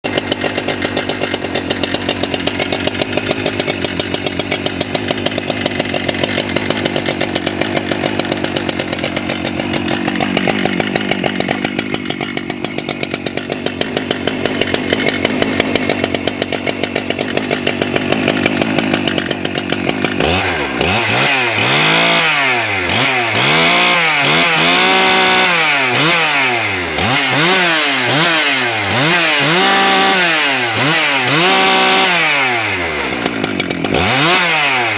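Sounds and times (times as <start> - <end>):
chainsaw idling and revving: 0.0 - 34.9.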